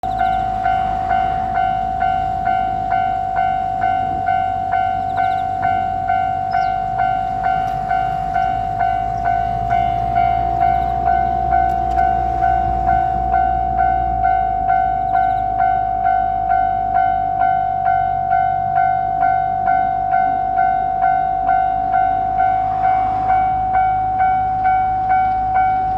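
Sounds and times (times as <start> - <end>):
level crossing warning bell: 0.0 - 25.9
train rumble: 0.0 - 25.9.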